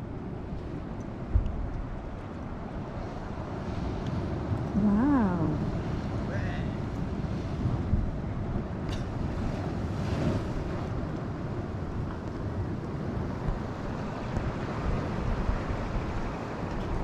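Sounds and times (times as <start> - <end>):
sea waves breaking against rocks: 0.0 - 4.8, 5.5 - 17.0
wind buffeting microphone: 0.0 - 17.0.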